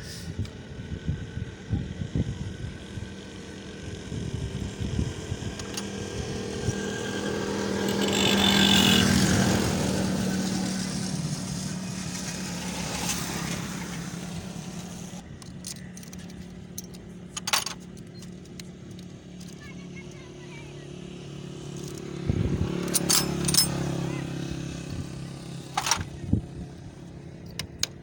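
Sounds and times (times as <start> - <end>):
motor vehicle engine running: 0.0 - 28.0.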